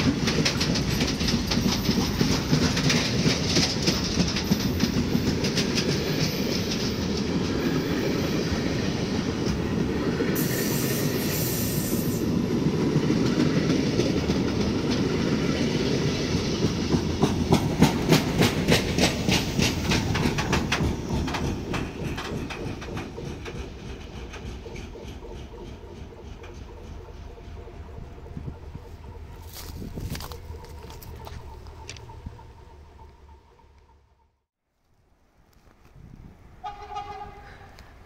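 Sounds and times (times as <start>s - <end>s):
clickety-clack over rail joints: 0.0s - 34.0s
freight train wheels on rail: 0.0s - 34.2s, 35.5s - 38.0s.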